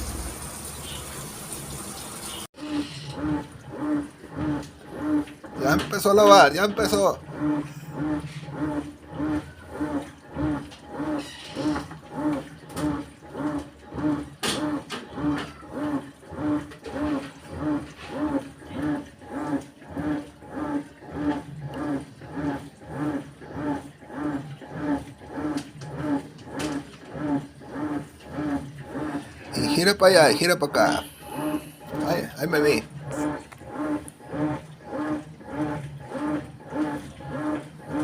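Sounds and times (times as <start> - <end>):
washing machine agitating: 0.0 - 38.0.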